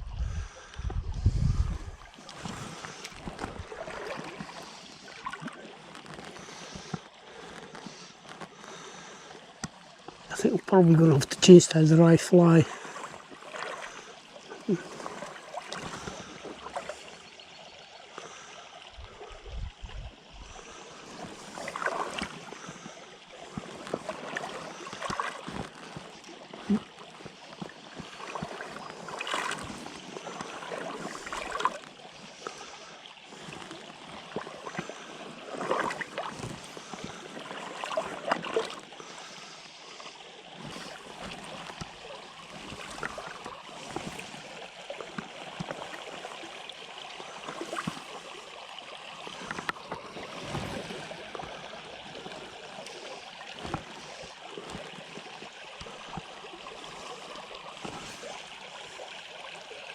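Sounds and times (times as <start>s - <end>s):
stream water running: 0.0s - 59.9s
water splashes: 0.0s - 59.9s.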